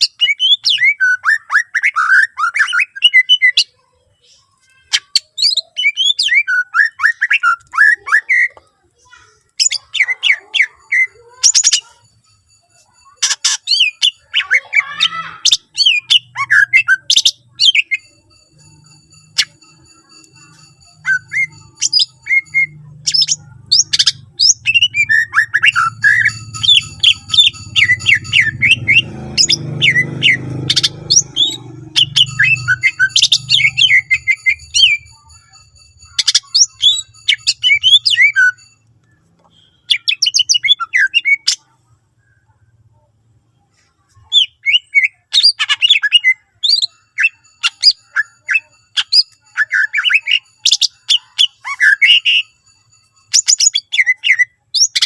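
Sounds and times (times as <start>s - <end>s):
bird singing chirps and whistles: 0.0s - 8.6s, 9.6s - 11.9s, 12.8s - 38.8s, 39.4s - 41.6s, 44.2s - 55.0s.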